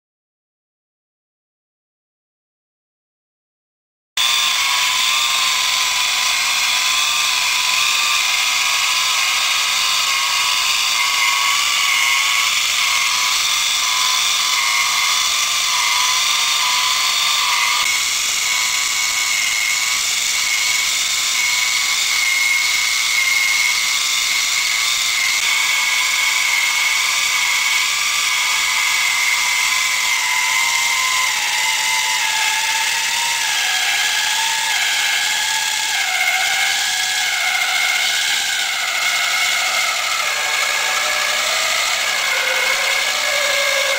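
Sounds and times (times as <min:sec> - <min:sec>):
small motor whining: 0:04.2 - 0:43.9.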